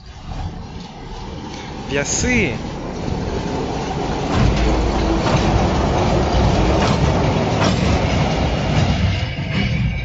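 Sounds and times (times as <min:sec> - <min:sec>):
diesel locomotive engine running: 0:00.0 - 0:10.0
wheels clicking over rail joints: 0:00.0 - 0:10.0.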